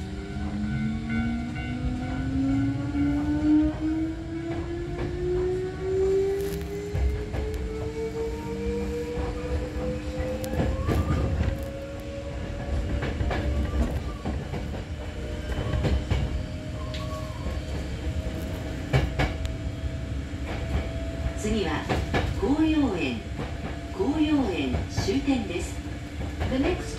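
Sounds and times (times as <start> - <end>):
low train rumble: 0.0 - 26.9.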